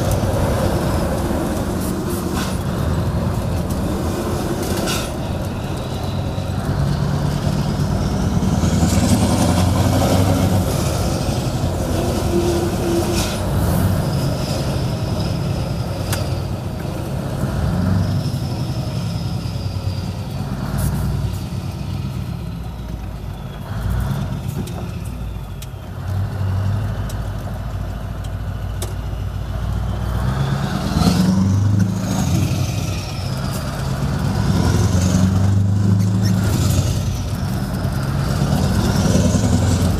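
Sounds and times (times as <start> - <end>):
truck diesel engine accelerating: 0.0 - 39.9.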